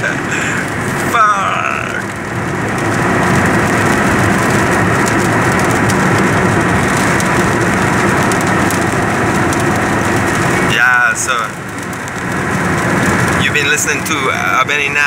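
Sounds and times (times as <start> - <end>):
low engine hum: 0.0 - 15.0
vehicle noise: 0.0 - 15.0.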